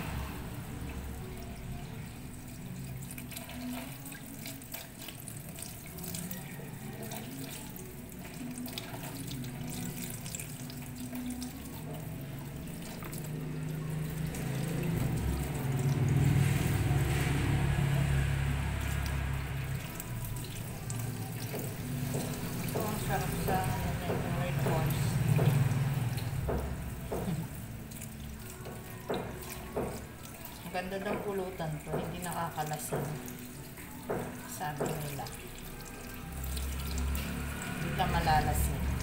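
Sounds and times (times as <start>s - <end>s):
kitchen tap running: 0.0s - 39.0s
water splashing into colander: 0.0s - 39.0s.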